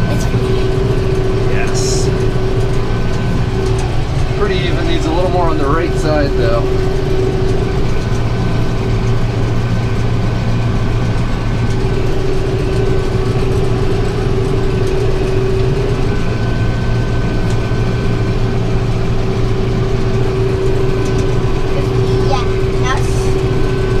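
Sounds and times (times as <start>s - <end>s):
baler whine: 0.0s - 24.0s
tractor engine droning: 0.0s - 24.0s.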